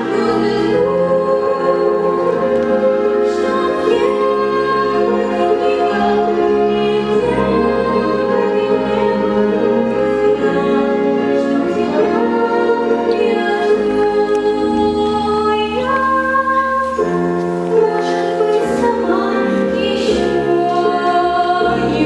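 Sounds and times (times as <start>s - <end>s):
slow choral music: 0.0s - 22.0s.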